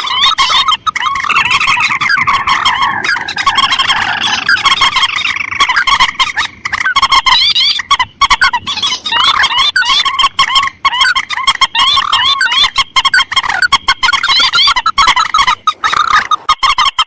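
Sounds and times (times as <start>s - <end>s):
rail bird calls: 0.0s - 17.0s.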